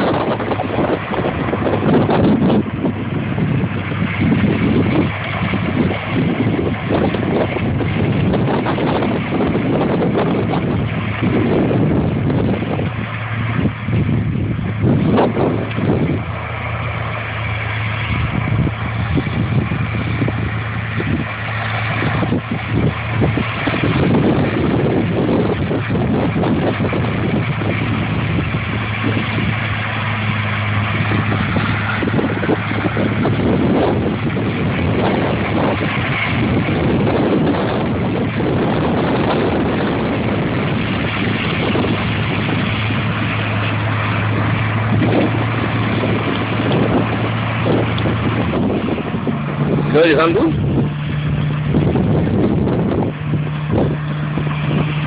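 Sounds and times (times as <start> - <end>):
loud mechanical noise: 0.0 - 55.0
machinery engine humming: 0.0 - 55.0.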